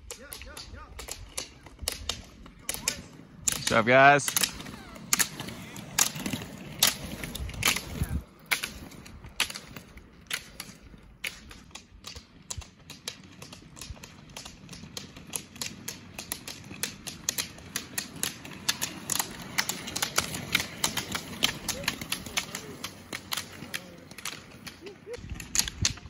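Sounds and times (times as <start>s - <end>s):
ski pole tips clicking on asphalt: 0.0s - 26.0s
wheels rolling hum: 1.0s - 26.0s.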